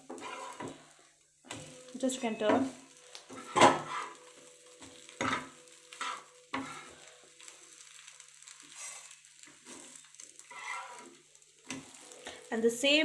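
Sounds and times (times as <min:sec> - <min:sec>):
spatula scraping a frying pan: 0:00.0 - 0:12.4
bread sizzling in a pan: 0:00.0 - 0:13.0.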